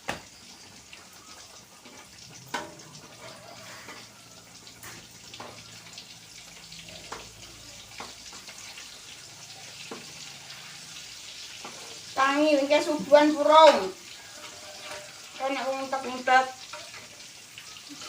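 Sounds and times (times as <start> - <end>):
food frying sizzle: 0.0 - 18.0.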